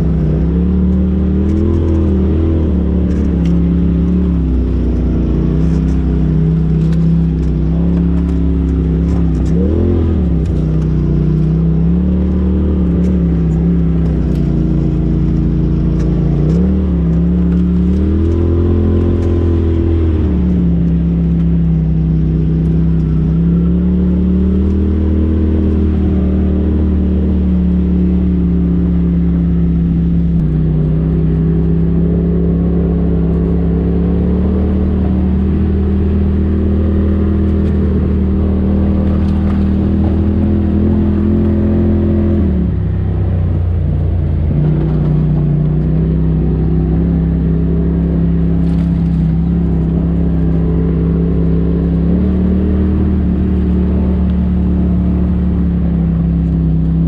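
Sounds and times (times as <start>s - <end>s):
vehicle engine running under load: 0.0s - 57.0s.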